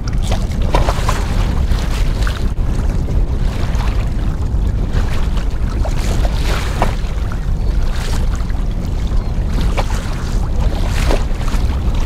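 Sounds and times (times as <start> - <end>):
waves slapping against hull: 0.0 - 12.0
wind buffeting microphone: 0.0 - 12.0.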